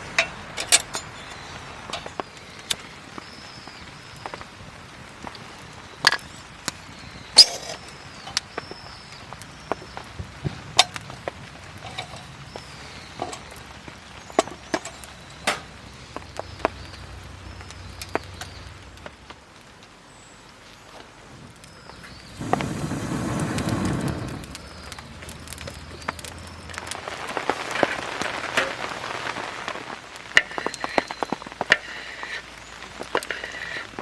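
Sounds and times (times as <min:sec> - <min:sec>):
campfire crackling and popping: 0:00.0 - 0:34.0
faint steady hiss: 0:00.0 - 0:34.0.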